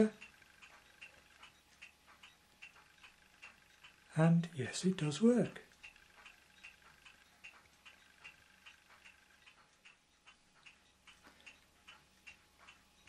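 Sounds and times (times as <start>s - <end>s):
faint regular ticking: 0.0s - 13.0s
quiet hiss: 0.0s - 13.0s.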